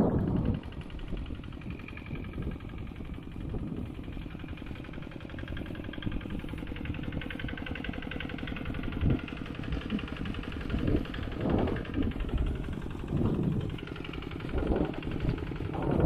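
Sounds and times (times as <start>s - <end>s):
hand tractor engine running: 0.0s - 16.0s.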